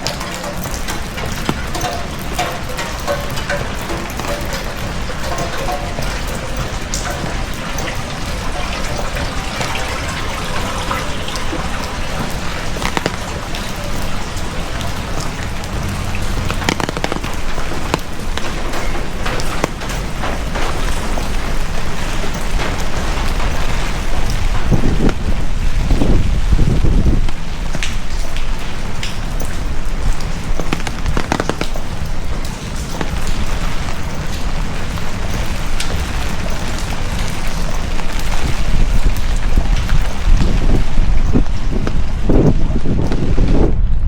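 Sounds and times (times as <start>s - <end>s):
sharp taps of raindrops: 0.0s - 43.7s
heavy rain falling: 0.0s - 44.0s
wind gusts buffeting microphone: 0.0s - 44.0s.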